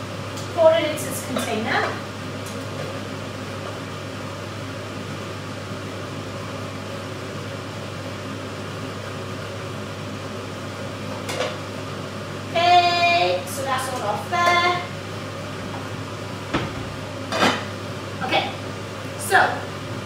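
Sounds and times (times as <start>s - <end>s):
fan humming with hiss: 0.0s - 20.0s.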